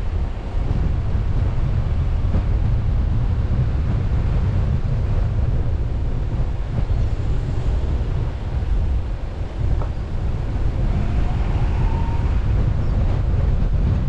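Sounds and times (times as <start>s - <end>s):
car road and engine noise: 0.0s - 14.0s
wind buffeting microphone: 0.0s - 14.0s.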